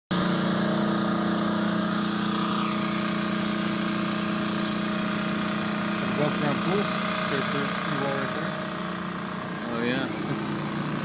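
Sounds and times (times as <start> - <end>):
car engine humming: 0.1 - 11.0.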